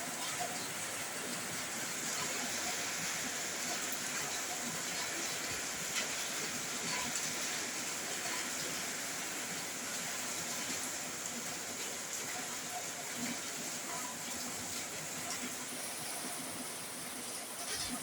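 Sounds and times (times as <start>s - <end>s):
heavy rain hissing: 0.0s - 18.0s
raindrops tapping on a roof: 0.0s - 18.0s.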